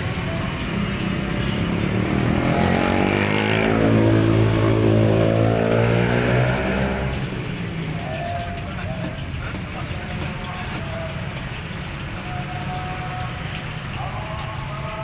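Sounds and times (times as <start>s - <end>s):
potatoes deep-frying in oil: 0.0s - 15.0s
vehicle engine passing: 0.0s - 15.0s.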